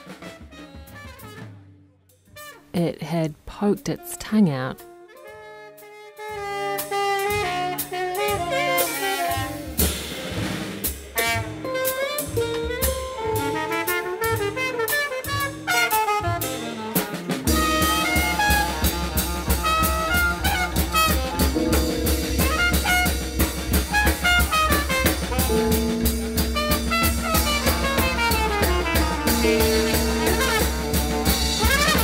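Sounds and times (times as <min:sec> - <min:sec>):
instrumental background music: 0:00.0 - 0:32.0.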